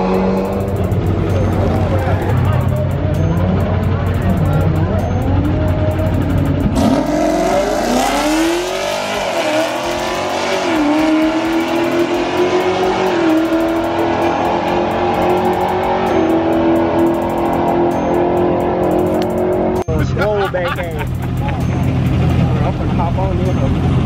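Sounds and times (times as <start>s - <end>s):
drag car engine accelerating: 0.0s - 20.2s, 21.0s - 24.0s.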